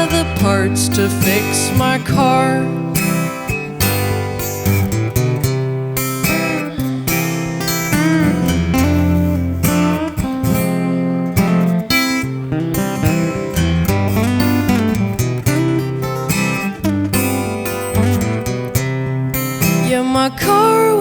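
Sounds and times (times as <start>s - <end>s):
acoustic guitar strumming: 0.0s - 21.0s
lead guitar with bending notes: 0.0s - 21.0s.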